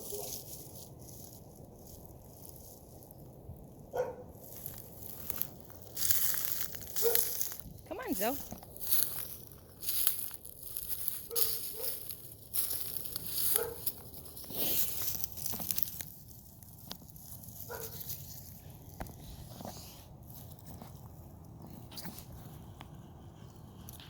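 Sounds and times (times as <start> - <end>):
footsteps crunching on dry trail: 0.1 - 22.6.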